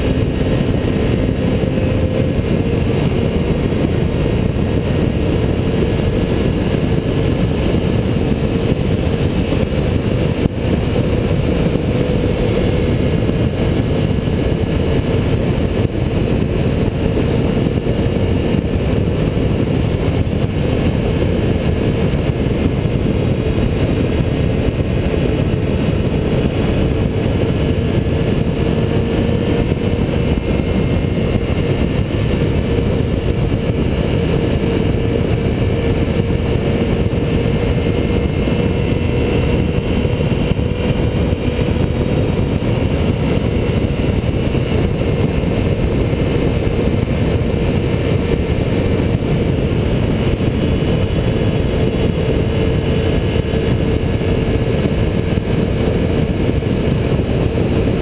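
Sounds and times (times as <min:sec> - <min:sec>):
motorcycle engine drone: 0:00.0 - 0:58.0
wind rushing over microphone: 0:00.0 - 0:58.0.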